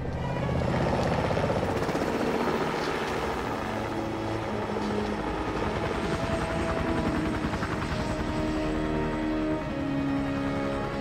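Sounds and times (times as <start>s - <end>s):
helicopter rotor chopping: 0.1s - 11.0s.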